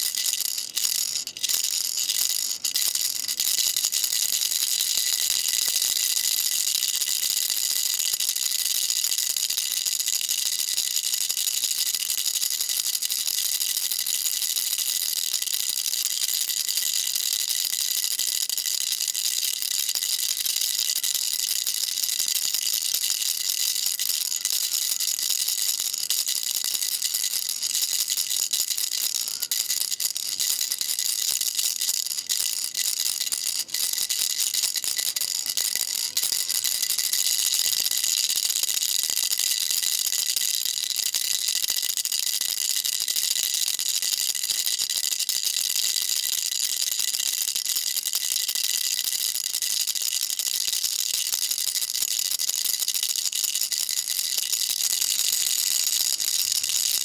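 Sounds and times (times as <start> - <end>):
baby rattle shaken: 0.0 - 57.0.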